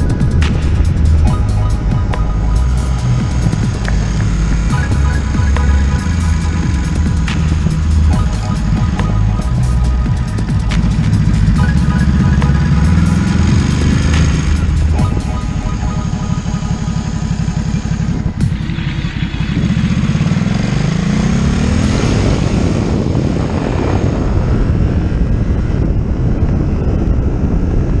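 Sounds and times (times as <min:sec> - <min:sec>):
motorcycle engine accelerating: 0:00.0 - 0:28.0
rushing wind noise: 0:00.0 - 0:28.0.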